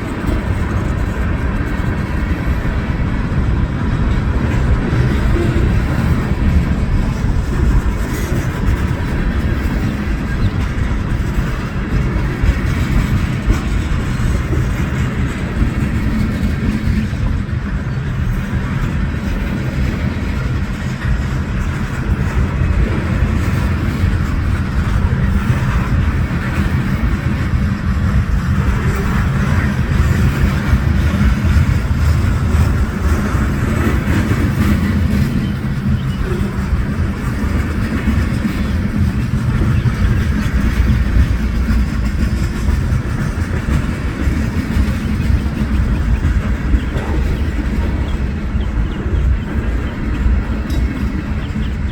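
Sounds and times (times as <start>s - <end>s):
train rumbling past: 0.0s - 51.9s.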